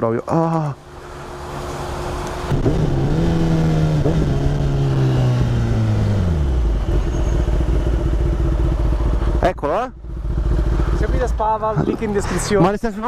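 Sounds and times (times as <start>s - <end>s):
motorcycle engine running: 0.8s - 13.0s.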